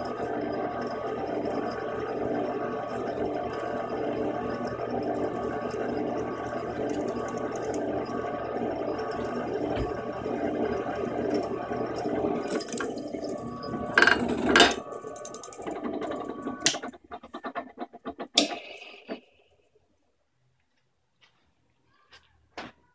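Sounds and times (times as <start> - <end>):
drill press drilling metal: 0.0 - 19.6.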